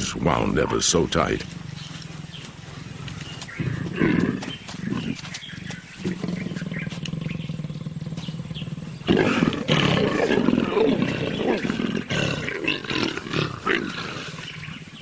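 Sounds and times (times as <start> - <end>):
leopards growling: 0.0 - 15.0.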